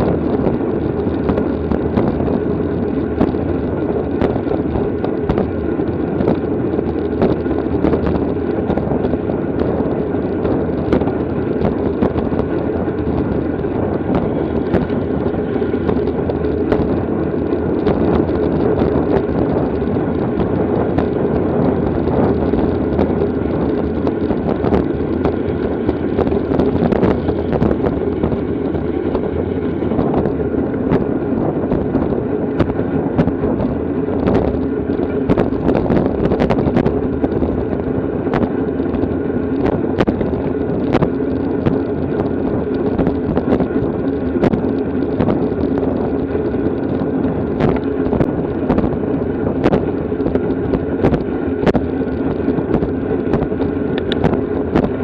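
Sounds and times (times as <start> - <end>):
wind rushing: 0.0 - 55.0.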